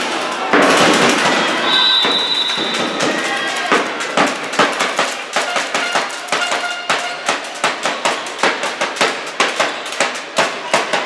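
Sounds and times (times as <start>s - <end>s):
sharp knocks and claps: 0.0s - 11.0s.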